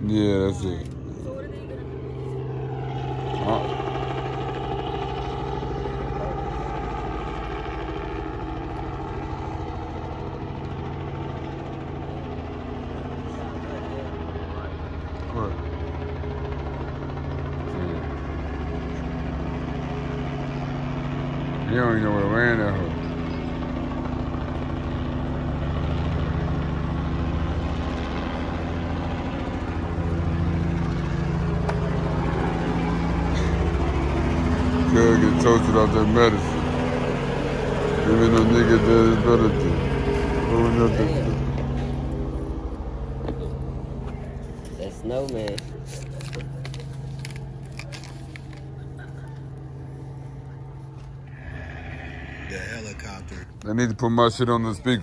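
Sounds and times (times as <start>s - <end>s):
helicopter flying past: 0.0s - 55.0s.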